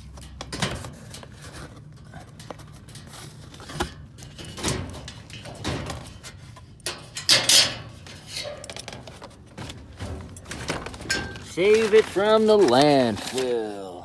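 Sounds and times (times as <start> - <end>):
metal hardware clattering: 0.0 - 13.6.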